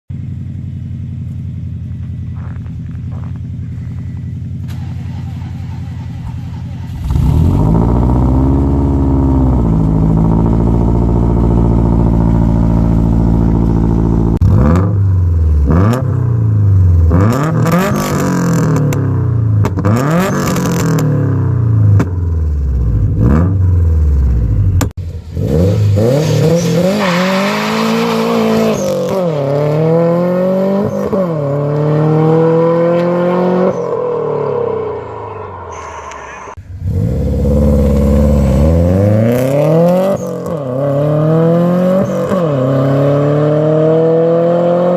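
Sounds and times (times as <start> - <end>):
car engine revving and accelerating: 6.5 - 24.6, 25.2 - 44.9.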